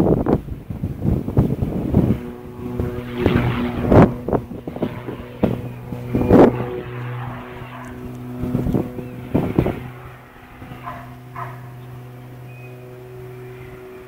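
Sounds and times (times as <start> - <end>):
wind buffeting microphone: 0.0 - 14.0
engine running: 0.1 - 14.0.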